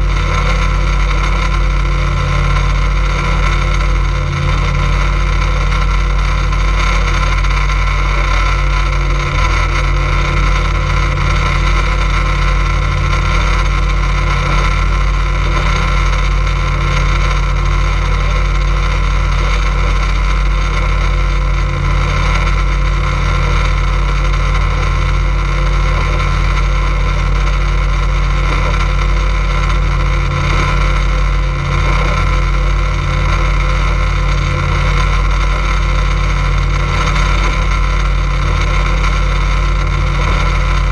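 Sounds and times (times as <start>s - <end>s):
motorboat engine droning: 0.0s - 40.9s.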